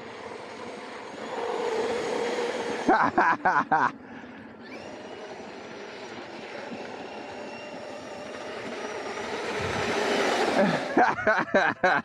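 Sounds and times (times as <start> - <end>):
electric motor whining: 0.0 - 11.6.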